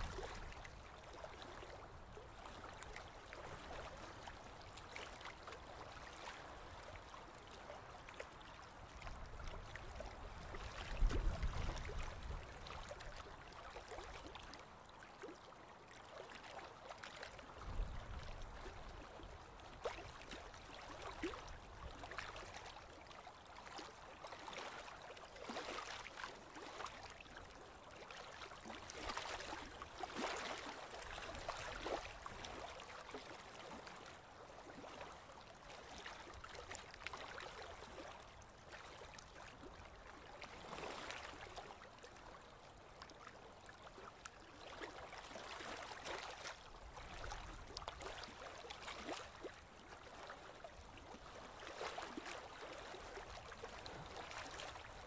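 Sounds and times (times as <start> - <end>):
water lapping against boat hull: 0.0 - 55.0.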